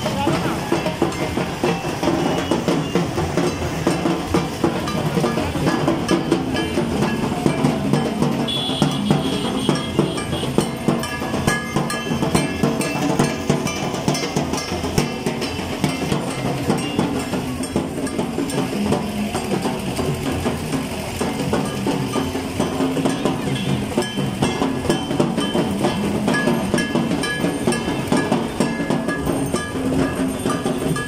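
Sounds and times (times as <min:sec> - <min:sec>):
procession music with fast drumming: 0:00.0 - 0:31.0.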